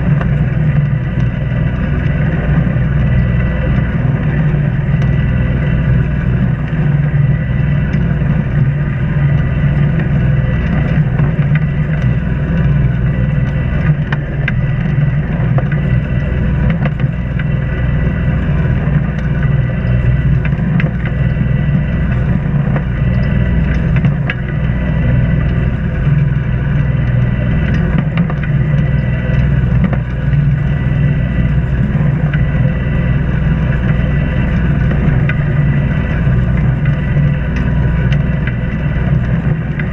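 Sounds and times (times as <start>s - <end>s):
boat engine running: 0.0s - 39.9s
faint steady whine: 0.0s - 39.9s.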